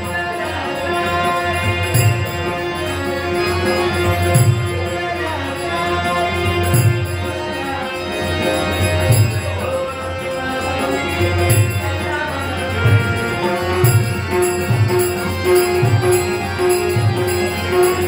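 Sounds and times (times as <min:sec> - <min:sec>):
harmonium chords: 0:00.0 - 0:18.0
man singing: 0:00.0 - 0:18.0.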